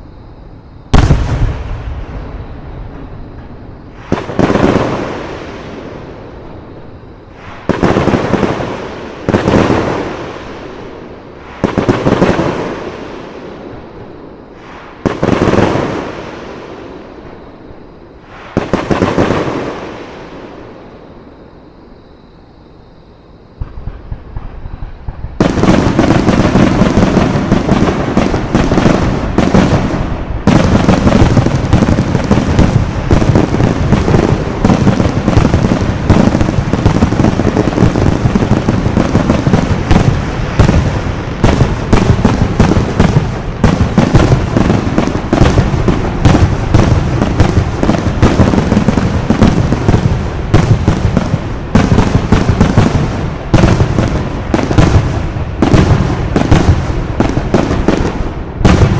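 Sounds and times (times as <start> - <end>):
fireworks bangs and crackling: 0.8 - 21.0, 23.6 - 58.9.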